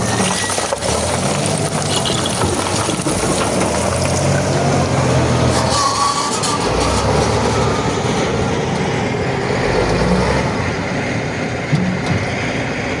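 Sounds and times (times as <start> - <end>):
rock crusher rumbling: 0.0 - 11.0, 11.6 - 13.0.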